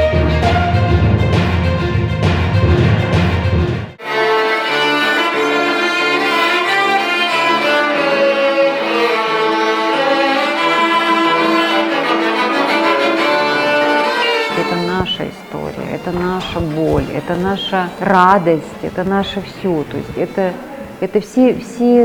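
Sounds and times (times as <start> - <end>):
bowed strings slow sustained notes: 0.0 - 18.1.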